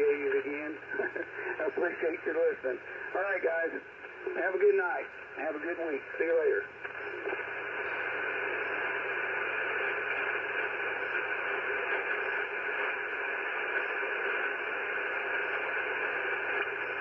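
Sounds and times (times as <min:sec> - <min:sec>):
radio hiss and static: 0:00.0 - 0:17.0.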